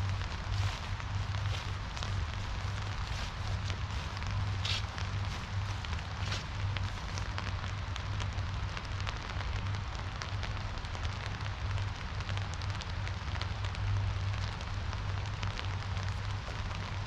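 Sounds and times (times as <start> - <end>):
rain on an umbrella: 0.0 - 17.0.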